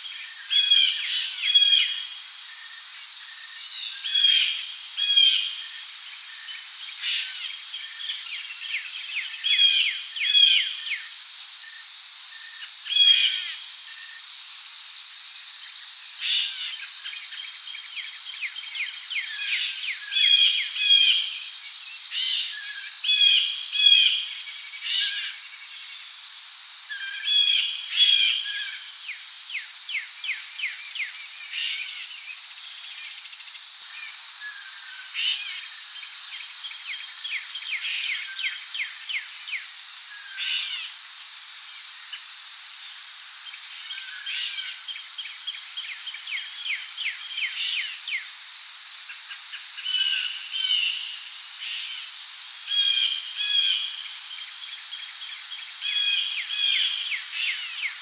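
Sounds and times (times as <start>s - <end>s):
crickets and insects chorus: 0.0s - 58.0s.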